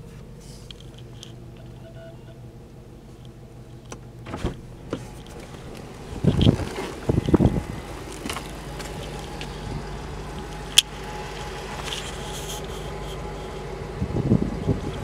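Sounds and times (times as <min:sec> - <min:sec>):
car engine idling: 0:00.0 - 0:15.0
low bumps: 0:02.5 - 0:15.0.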